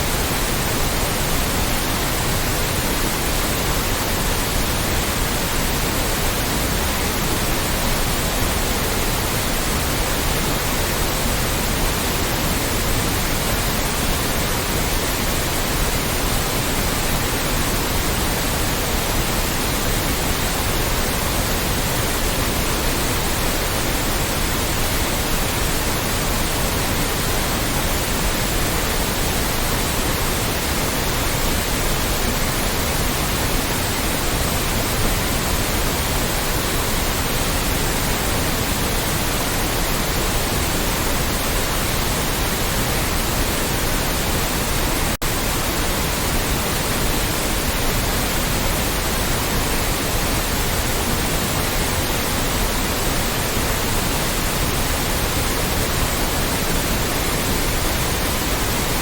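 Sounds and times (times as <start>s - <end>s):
synthetic white noise hiss: 0.0s - 59.0s.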